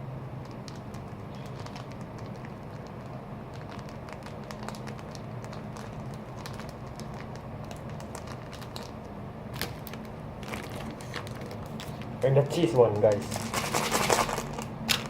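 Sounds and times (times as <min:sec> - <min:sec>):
steady low hum: 0:00.0 - 0:15.0
plastic sachets crinkling: 0:00.4 - 0:15.0.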